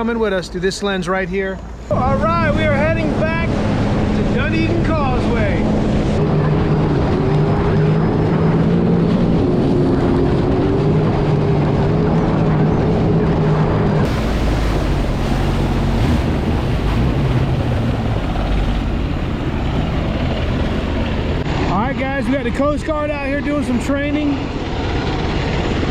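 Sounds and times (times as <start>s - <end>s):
jet ski engine humming: 0.0s - 25.9s
wind buffeting microphone: 1.4s - 25.9s
rushing water: 1.6s - 25.9s.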